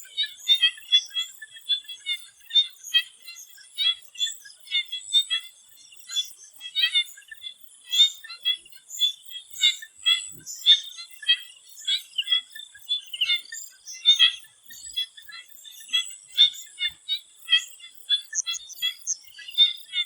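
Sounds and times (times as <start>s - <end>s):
frogs calling in a chorus: 0.0s - 20.0s.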